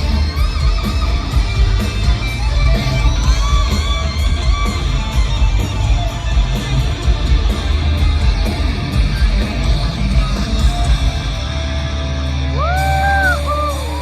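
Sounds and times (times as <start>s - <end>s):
hard rock band playing: 0.0s - 14.0s.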